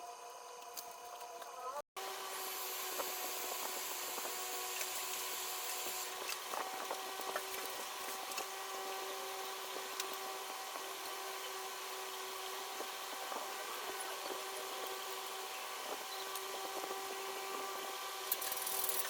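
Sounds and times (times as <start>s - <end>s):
small motor whirring: 0.0s - 19.0s.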